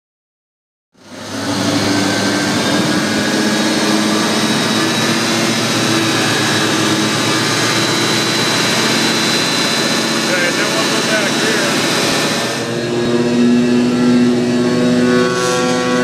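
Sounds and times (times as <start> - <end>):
low engine hum: 1.0 - 16.0
vacuum pump rushing air: 1.0 - 16.0.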